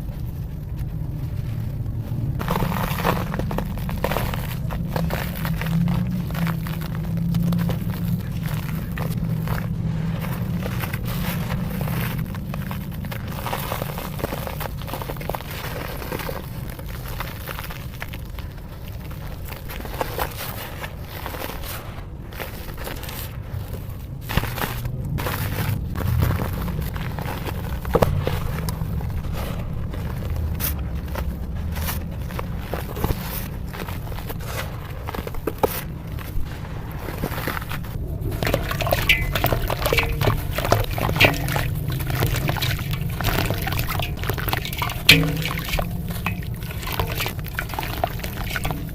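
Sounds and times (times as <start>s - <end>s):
dry dirt crunching and crumbling: 0.0s - 48.9s.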